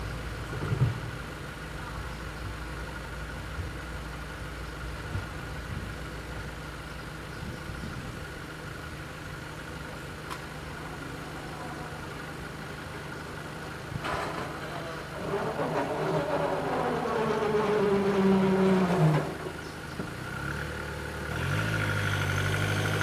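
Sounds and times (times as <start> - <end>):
car engines idling: 0.0 - 23.0.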